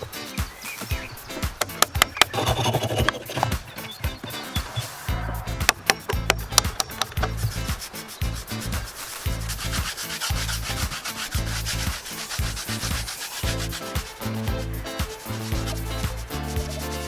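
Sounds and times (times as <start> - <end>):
rubbing strokes on wood: 0.0 - 17.0.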